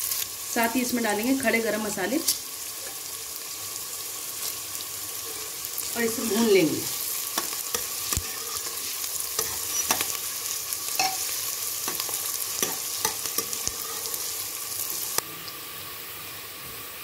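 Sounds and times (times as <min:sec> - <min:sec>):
onions and spices sizzling in oil: 0:00.0 - 0:17.0.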